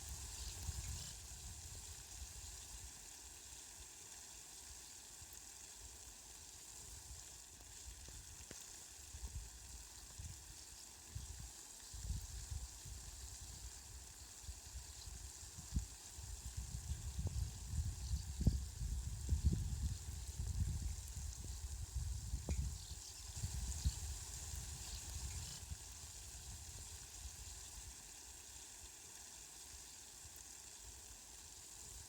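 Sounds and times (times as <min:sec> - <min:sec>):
faint rain hiss: 0:00.0 - 0:32.0.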